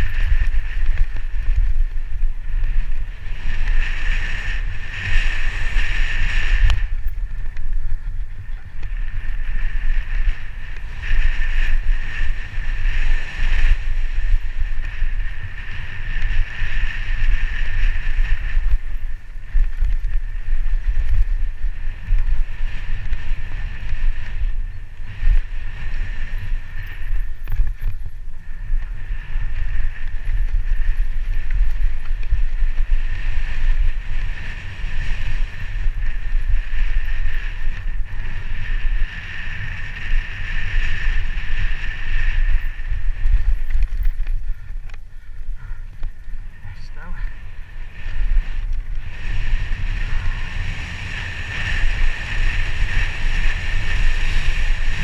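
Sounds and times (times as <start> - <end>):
bike tyre and trail noise: 0.0 - 55.0
wind buffeting microphone: 0.0 - 55.0.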